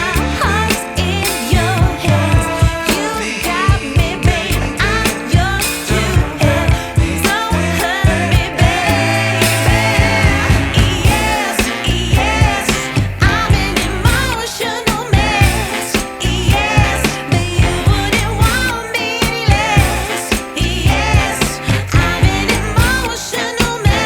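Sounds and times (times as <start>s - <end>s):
pop song with sung vocal: 0.0s - 24.0s
steady drum beat: 0.0s - 24.0s.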